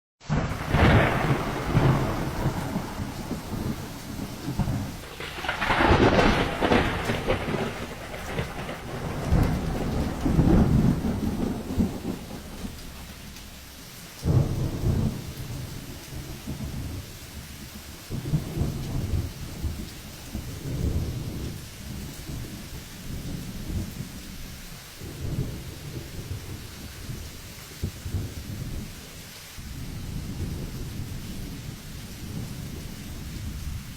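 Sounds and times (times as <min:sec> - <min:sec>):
rain falling: 0:00.2 - 0:33.9
thunder rolling: 0:00.2 - 0:33.9.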